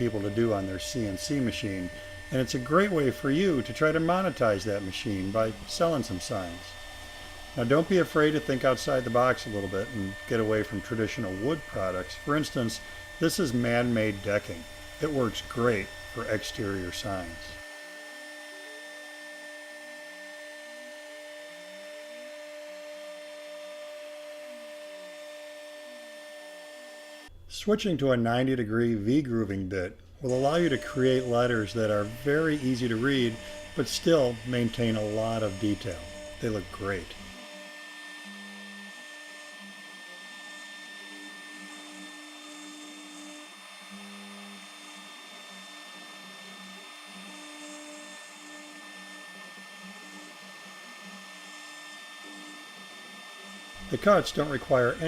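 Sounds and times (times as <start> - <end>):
drive motors humming: 0.0 - 20.0, 30.2 - 55.0
router spindle whine: 0.0 - 27.4, 30.2 - 55.0.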